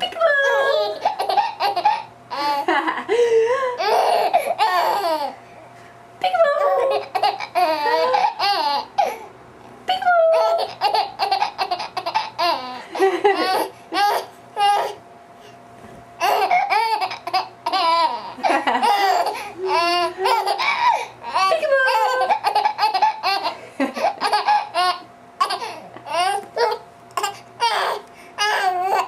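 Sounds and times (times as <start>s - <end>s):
baby laughing: 0.4s - 2.8s, 3.7s - 5.3s, 6.5s - 9.2s, 9.9s - 15.0s, 16.2s - 29.0s.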